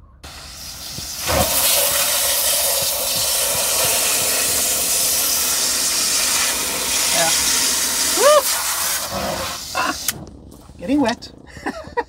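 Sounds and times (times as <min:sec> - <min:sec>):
water spraying from hose: 0:00.2 - 0:10.2.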